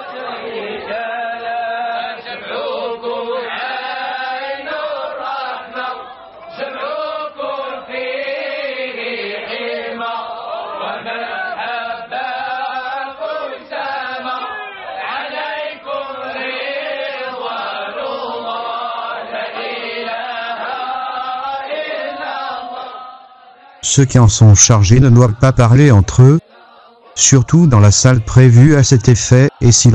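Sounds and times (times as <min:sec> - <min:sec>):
voices singing a devotional chant: 0:00.0 - 0:29.9.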